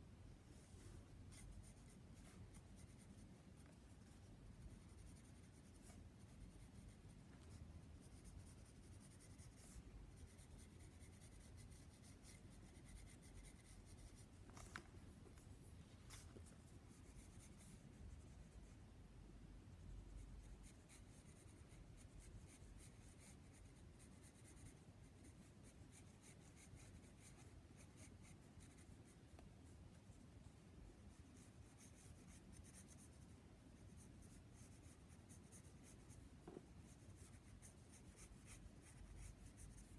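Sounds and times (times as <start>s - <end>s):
pencil scratching on paper: 1.3s - 14.8s, 16.1s - 18.8s, 20.1s - 29.4s, 31.1s - 33.3s, 33.9s - 39.9s.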